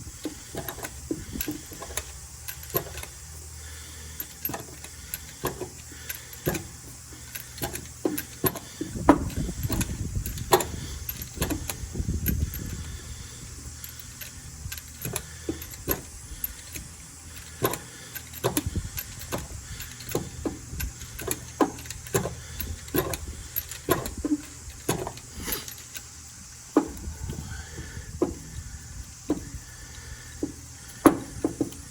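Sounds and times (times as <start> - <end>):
hand tools clicking and knocking: 0.0 - 31.9
low rumble of handling: 0.0 - 31.9.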